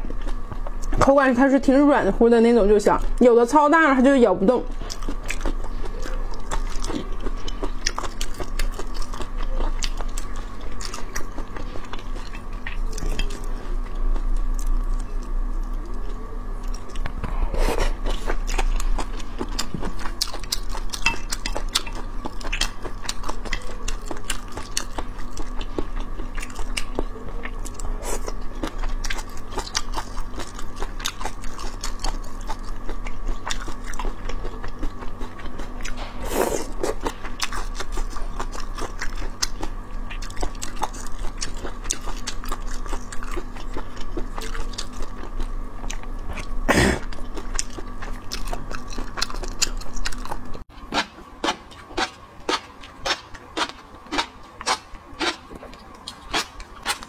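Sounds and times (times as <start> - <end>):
wet chewing and biting: 4.7 - 57.0.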